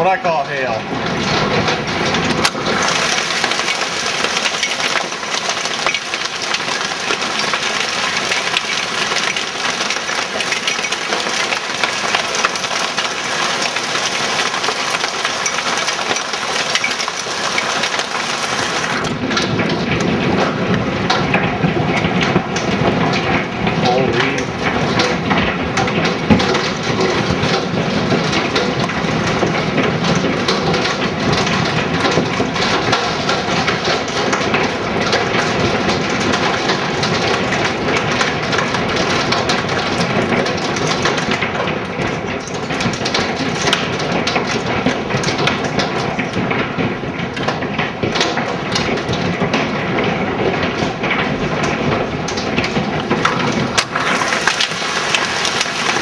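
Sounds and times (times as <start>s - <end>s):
large hail clattering: 0.0s - 56.0s.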